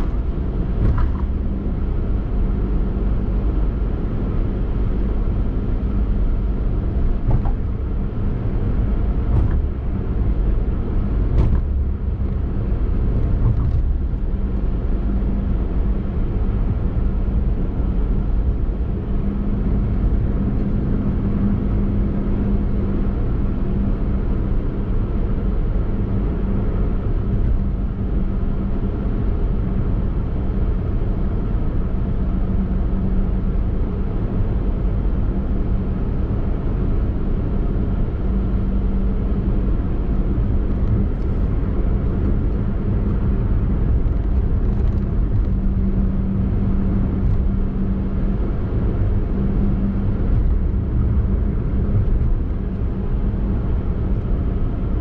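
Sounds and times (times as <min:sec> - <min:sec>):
car driving road and engine noise: 0:00.0 - 0:55.0.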